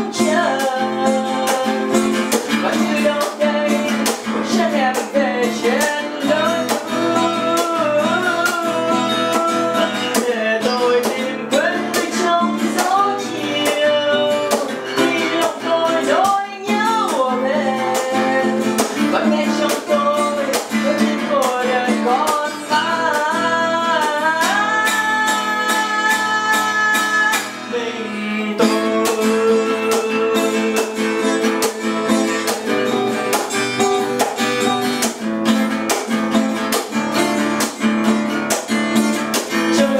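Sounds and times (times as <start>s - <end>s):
person singing: 0.0s - 35.2s, 35.8s - 39.9s
acoustic guitar: 0.0s - 39.9s.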